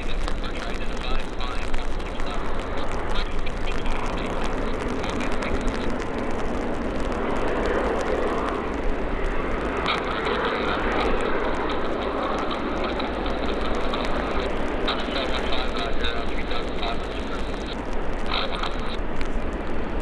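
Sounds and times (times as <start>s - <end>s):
jet engines taxiing: 0.0s - 20.0s.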